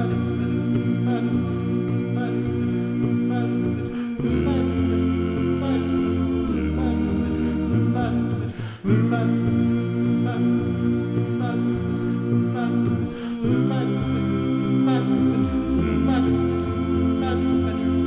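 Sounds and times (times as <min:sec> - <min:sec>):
male group singing in harmony: 0:00.0 - 0:18.0.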